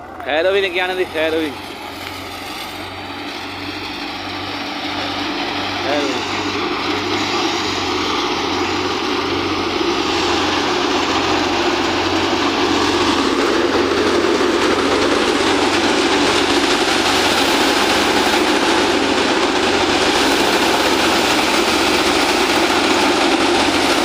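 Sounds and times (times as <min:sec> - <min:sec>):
thresher mechanical drone: 0:00.0 - 0:24.0.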